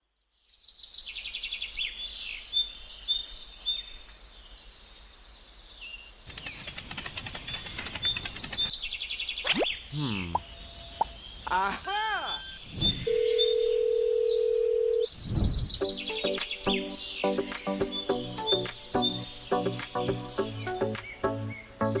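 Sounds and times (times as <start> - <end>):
small birds chirping: 0.4 - 22.0.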